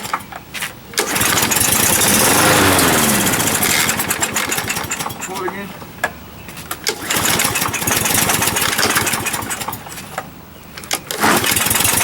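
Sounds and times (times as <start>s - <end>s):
lawnmower engine running roughly: 0.0s - 12.0s
recoil starter pulled: 0.0s - 12.0s.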